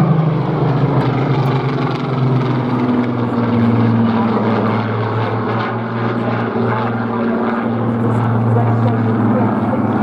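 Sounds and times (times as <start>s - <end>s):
propeller aircraft engine drone: 0.0s - 10.0s.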